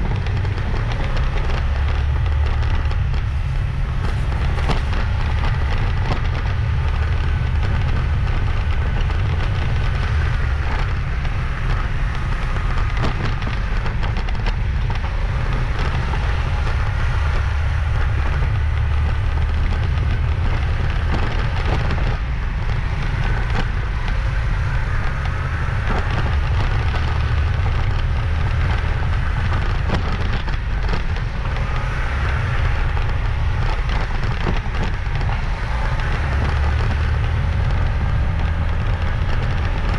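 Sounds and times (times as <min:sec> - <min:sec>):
faint engine whine: 0:00.0 - 0:39.9
motorbike road noise rumble: 0:00.0 - 0:39.9
wind buffeting microphone: 0:00.0 - 0:39.9.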